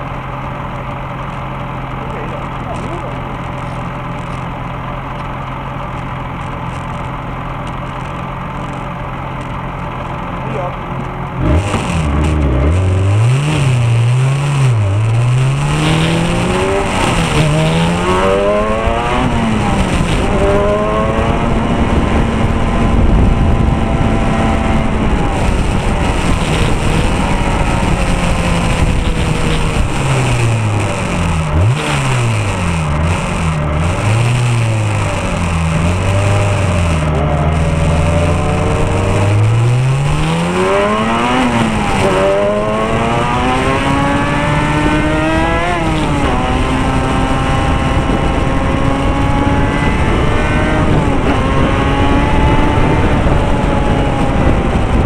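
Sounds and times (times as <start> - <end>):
wind and road rush: 0.0 - 55.0
race car engine revving: 9.4 - 55.0.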